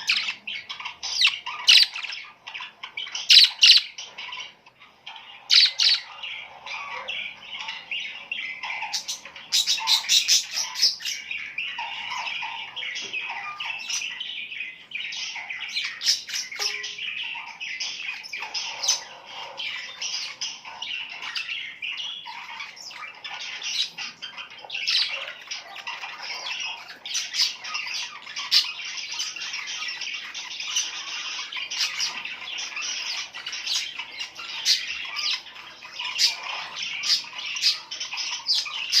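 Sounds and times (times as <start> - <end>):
birds chirping and squawking: 0.0 - 39.0.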